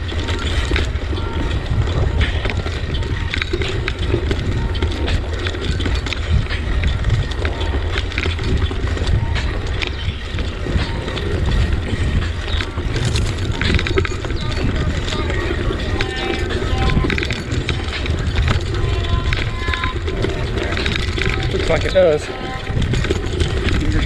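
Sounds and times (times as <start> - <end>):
bicycle clicks and rattles: 0.0 - 24.0
wind buffeting microphone: 0.0 - 24.0.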